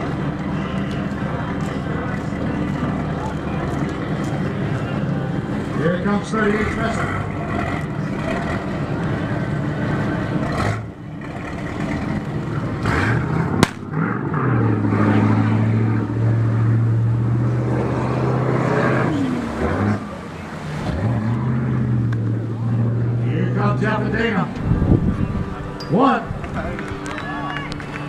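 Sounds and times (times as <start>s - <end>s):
boat engine revving: 0.0s - 28.0s.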